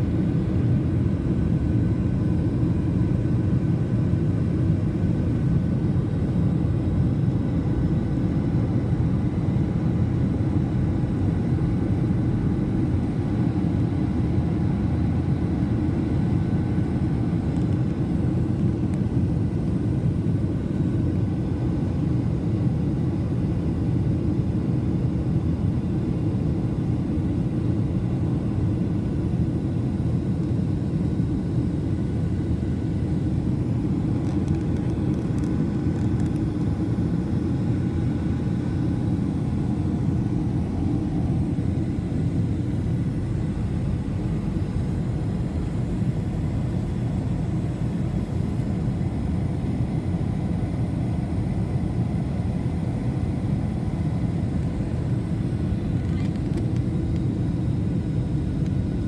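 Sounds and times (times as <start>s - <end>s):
airliner cabin rumble: 0.0s - 59.0s
faint steady whine: 0.0s - 59.0s.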